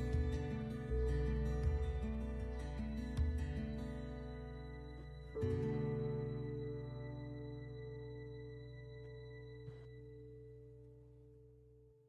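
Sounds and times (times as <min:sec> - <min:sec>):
faint background music chord: 0:00.0 - 0:12.0.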